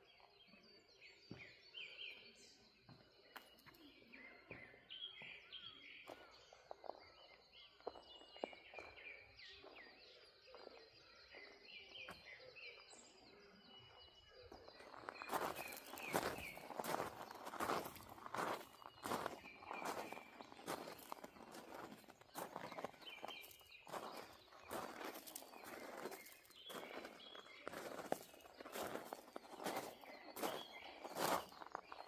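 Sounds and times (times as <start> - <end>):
small birds chirping and singing: 0.0 - 32.0.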